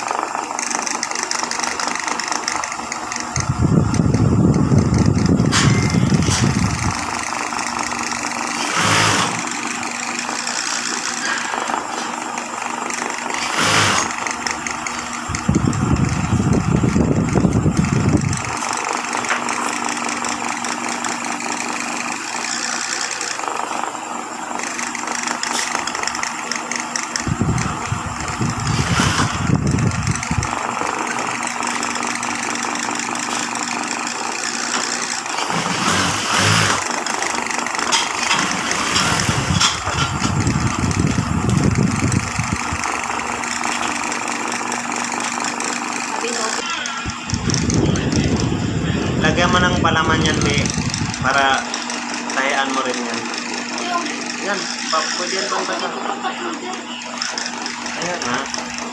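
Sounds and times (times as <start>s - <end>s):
background machine noise: 0.0s - 58.9s
industrial sewing machine stitching: 0.0s - 58.9s.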